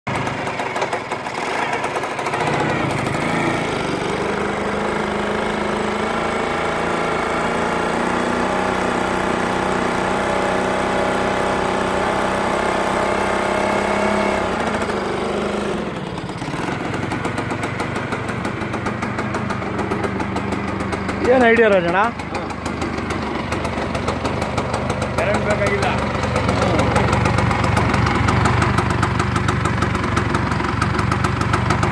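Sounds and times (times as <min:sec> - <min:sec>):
two-stroke scooter engine running: 0:00.1 - 0:31.9.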